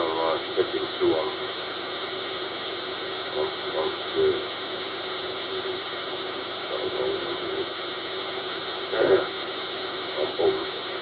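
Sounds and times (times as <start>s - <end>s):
faint muffled voice over radio: 0.0s - 1.8s, 3.1s - 11.0s
radio static hiss and hum: 0.0s - 11.0s.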